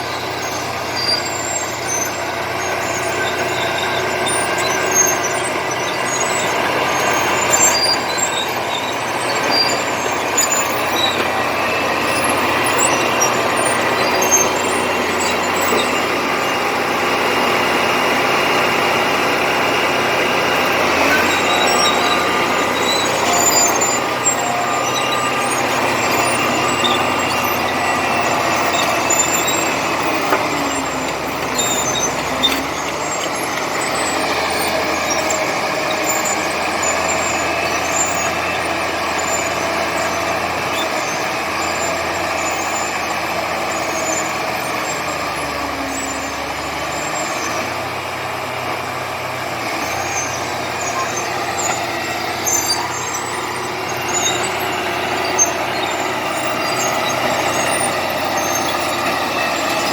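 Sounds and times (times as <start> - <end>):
bulldozer diesel engine under load: 0.0 - 59.9.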